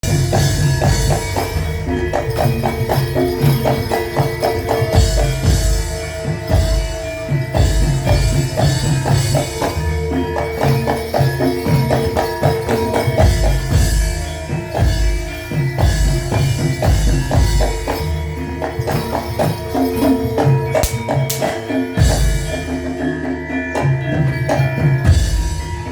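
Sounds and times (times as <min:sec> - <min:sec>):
pitched percussion ringing: 0:00.0 - 0:25.9.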